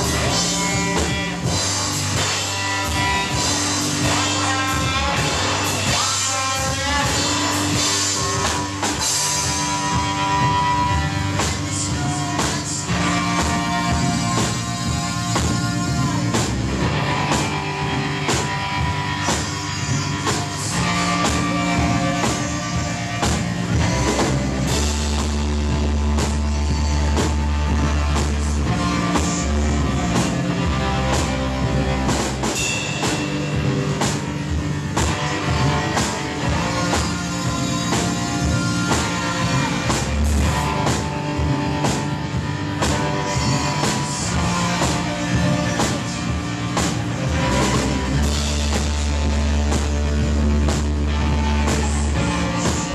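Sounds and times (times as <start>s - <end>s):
drum kit: 0.0s - 52.9s
electric guitar: 0.0s - 52.9s.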